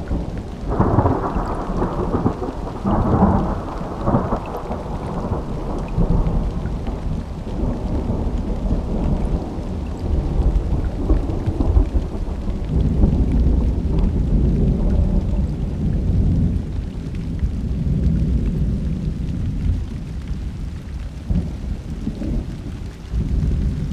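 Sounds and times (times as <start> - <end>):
rolling thunder: 0.0 - 23.9
steady rain: 0.0 - 23.9.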